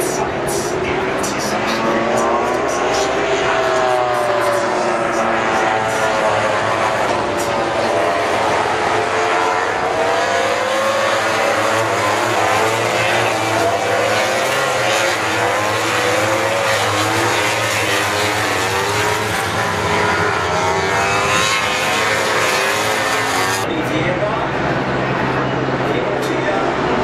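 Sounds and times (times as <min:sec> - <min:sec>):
racing motorcycles revving: 0:00.0 - 0:27.0.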